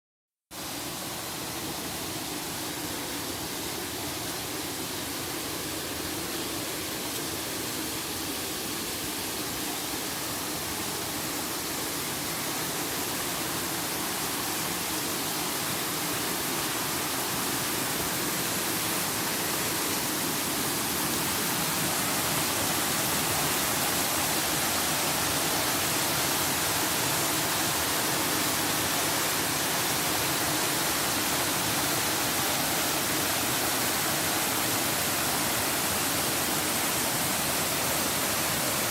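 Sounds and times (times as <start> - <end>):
waterfall rushing: 0.6 - 38.9.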